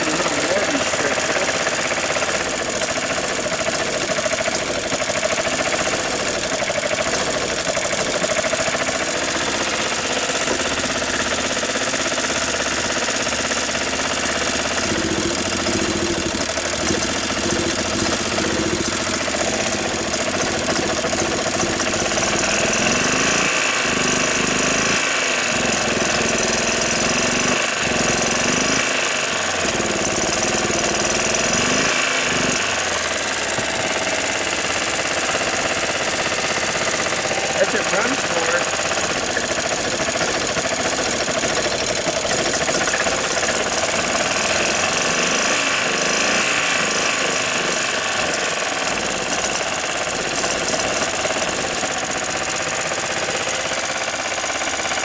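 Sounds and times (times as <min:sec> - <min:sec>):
golf cart engine running: 0:00.0 - 0:55.0.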